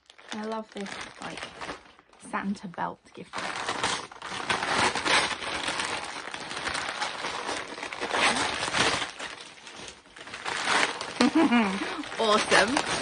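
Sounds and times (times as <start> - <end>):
wrapping paper rustling: 0.0 - 13.0.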